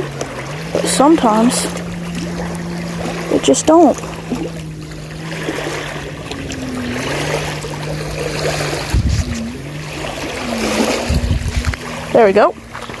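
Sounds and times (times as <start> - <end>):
steady low hum: 0.0 - 13.0
water: 0.0 - 13.0
wind: 0.0 - 13.0.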